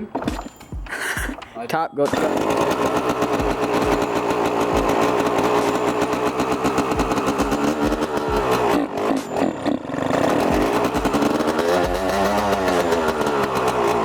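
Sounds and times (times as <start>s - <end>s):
two-stroke dirt bike engine revving: 2.1s - 14.0s.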